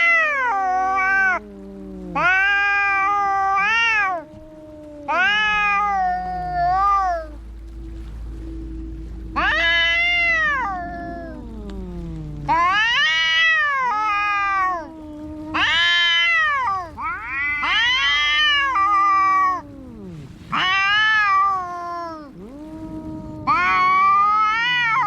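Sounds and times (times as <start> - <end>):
cats yowling in a fight: 0.0 - 7.4, 9.3 - 25.0.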